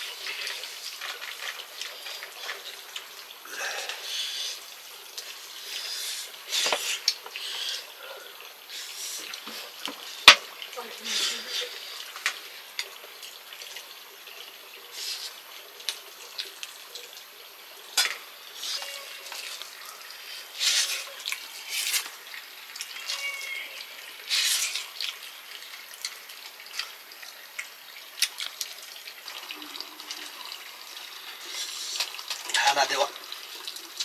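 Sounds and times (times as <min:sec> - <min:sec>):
water splashing and pouring: 0:00.0 - 0:34.0.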